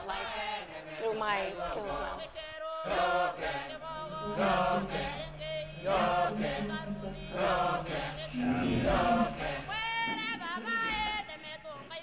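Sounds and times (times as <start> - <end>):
group singing a slow hymn: 0.0 - 12.0.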